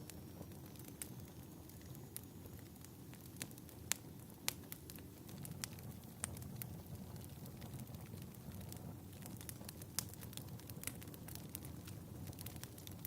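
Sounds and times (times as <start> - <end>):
fire crackling: 0.0 - 13.0
sharp pops from fire: 0.0 - 13.0.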